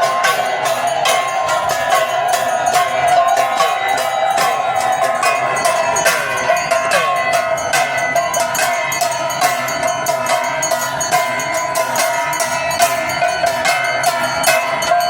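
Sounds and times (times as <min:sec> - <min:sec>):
bells and cymbals clanging: 0:00.0 - 0:15.0.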